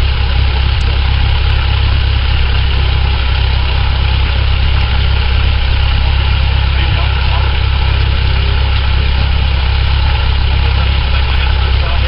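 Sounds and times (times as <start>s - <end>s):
aircraft engine idling: 0.0s - 12.0s
propeller drone: 0.0s - 12.0s.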